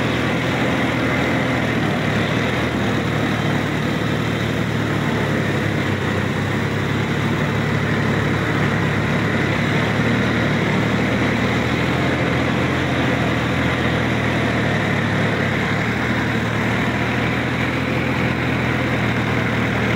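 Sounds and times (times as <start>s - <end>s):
tractor diesel engine running: 0.0s - 19.9s.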